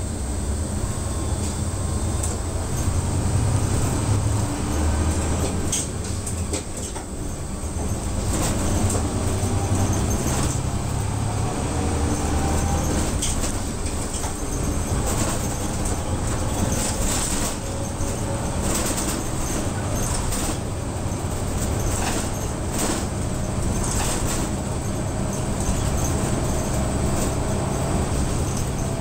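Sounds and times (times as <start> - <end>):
bus engine hum: 0.0 - 29.0
road noise: 0.0 - 29.0.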